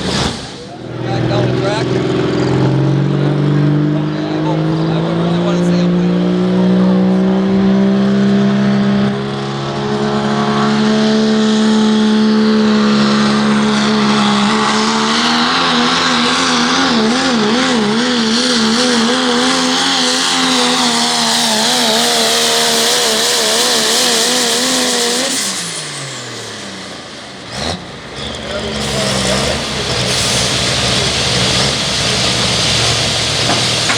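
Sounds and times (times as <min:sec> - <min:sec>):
diesel truck engine at full throttle: 0:00.0 - 0:33.9.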